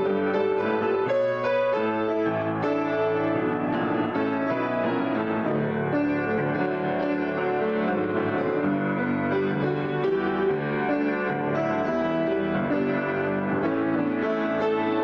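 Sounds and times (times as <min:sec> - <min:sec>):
grand piano improvisation: 0:00.0 - 0:15.0.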